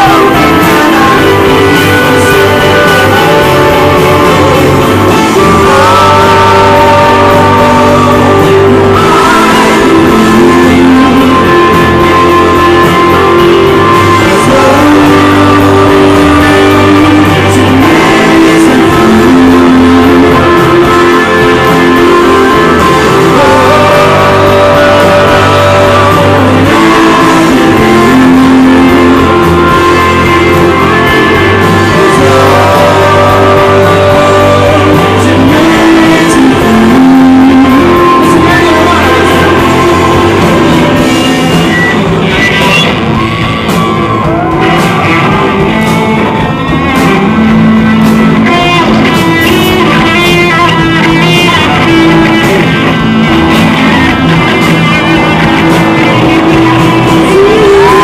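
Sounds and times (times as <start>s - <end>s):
live rock band playing: 0.0s - 58.0s
man singing: 0.0s - 58.0s
quick repeated guitar notes: 0.0s - 58.0s.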